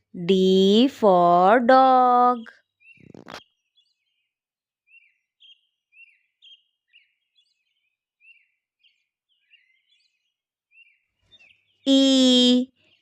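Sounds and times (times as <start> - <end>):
faint bird chirping: 2.0 - 13.0.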